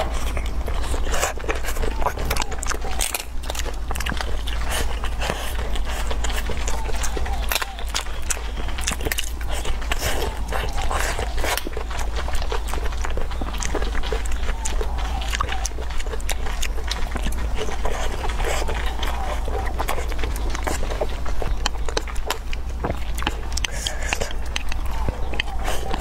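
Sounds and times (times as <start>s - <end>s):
low hum: 0.0s - 26.0s
mouth clicks: 0.0s - 26.0s
wet chewing and slurping: 0.0s - 26.0s.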